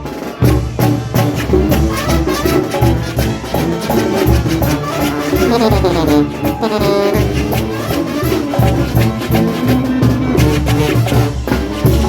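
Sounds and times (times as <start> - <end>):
brass band playing latin dance tune: 0.0 - 12.0.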